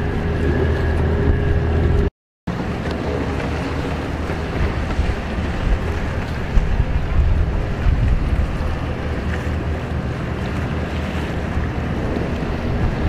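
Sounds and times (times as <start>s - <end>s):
jet skis racing: 0.0s - 13.0s
wind on microphone: 0.0s - 13.0s.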